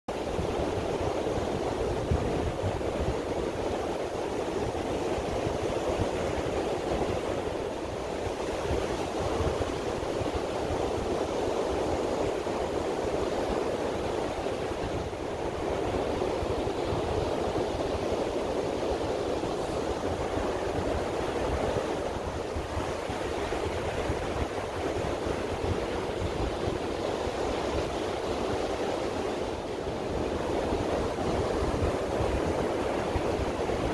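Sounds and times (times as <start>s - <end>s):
ocean surf breaking on beach: 0.1s - 33.9s.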